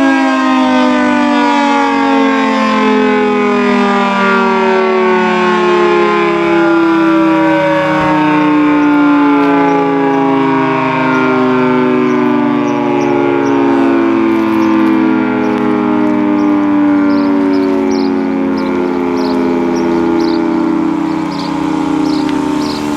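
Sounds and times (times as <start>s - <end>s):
two-tone siren sliding downward: 0.0s - 22.9s.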